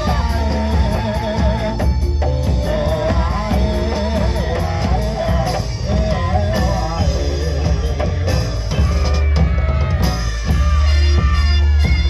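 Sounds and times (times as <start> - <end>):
drums: 0.0 - 12.0
gamelan ensemble playing: 0.0 - 12.0
heavy bass: 0.0 - 12.0.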